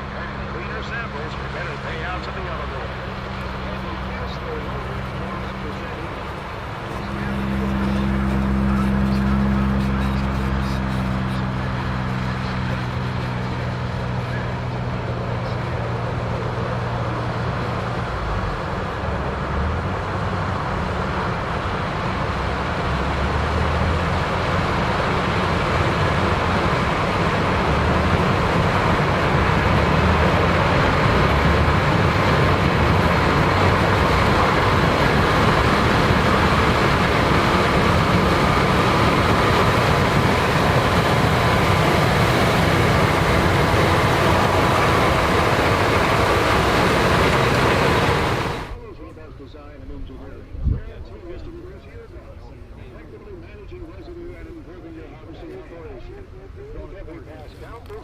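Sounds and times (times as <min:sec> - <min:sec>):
combine harvester engine and threshing: 0:00.0 - 0:49.2.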